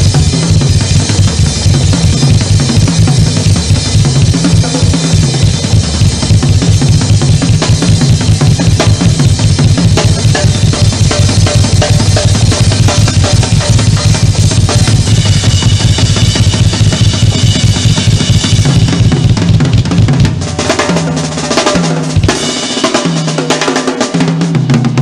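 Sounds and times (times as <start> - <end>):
drum kit played fast: 0.0 - 25.0.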